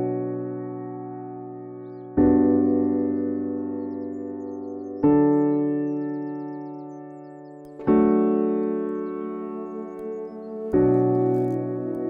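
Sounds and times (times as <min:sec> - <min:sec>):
held keyboard chords: 0:00.0 - 0:12.0.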